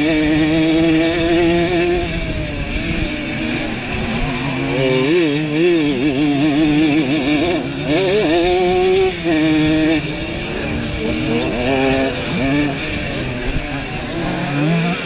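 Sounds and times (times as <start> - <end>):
two-stroke engine revving hard: 0.0 - 15.0.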